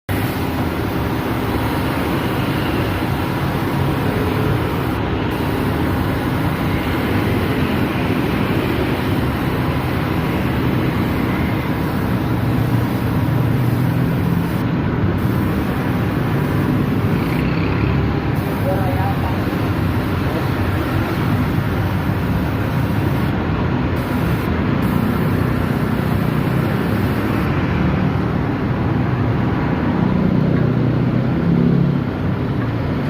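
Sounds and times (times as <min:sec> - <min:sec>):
road noise: 0:00.1 - 0:33.0
vehicle engine running: 0:00.2 - 0:27.5.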